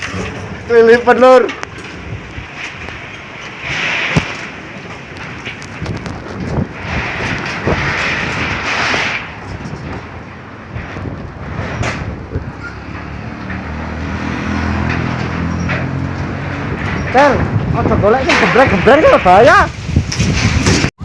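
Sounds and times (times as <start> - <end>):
wind gusts buffeting microphone: 0.0 - 21.0.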